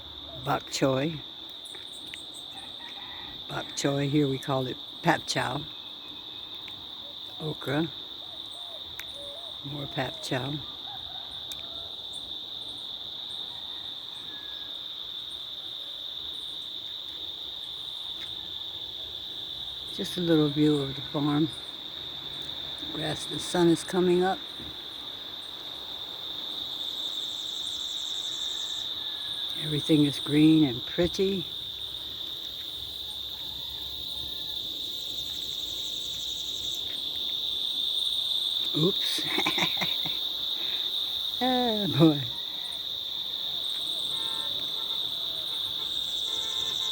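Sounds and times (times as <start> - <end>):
cicadas droning: 0.0 - 46.9
high-pitched insect chorus: 0.0 - 46.9.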